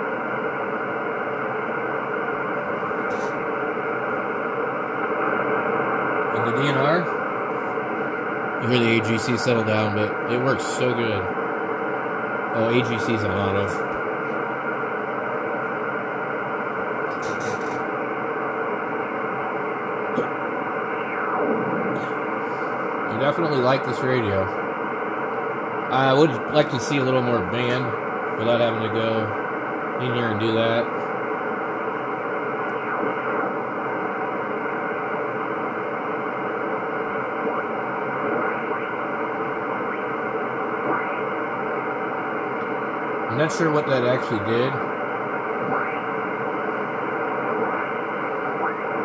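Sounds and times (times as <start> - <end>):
faint steady tones: 0.0 - 49.0
radio band noise hiss: 0.0 - 49.0.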